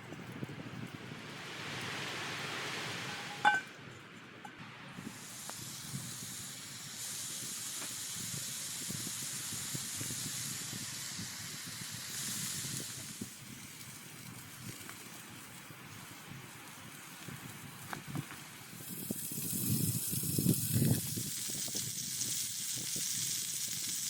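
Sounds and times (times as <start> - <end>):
campfire crackles: 0.0 - 24.0
steady hiss: 1.2 - 3.8, 4.4 - 24.0.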